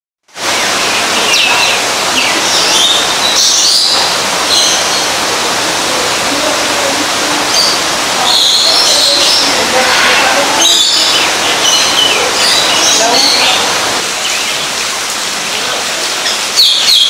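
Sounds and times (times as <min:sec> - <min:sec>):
steady rushing noise: 0:00.3 - 0:16.6
birds chirping and whistling: 0:00.4 - 0:05.2, 0:06.7 - 0:15.0, 0:16.2 - 0:17.0.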